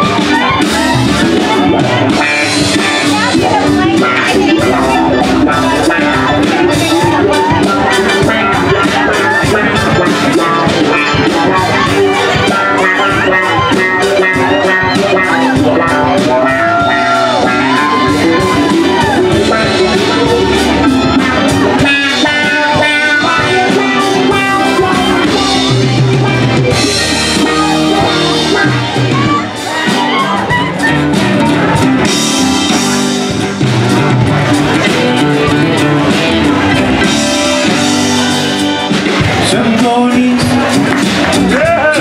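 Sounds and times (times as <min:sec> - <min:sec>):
drum kit: 0:00.0 - 0:42.0
guitars: 0:00.0 - 0:42.0.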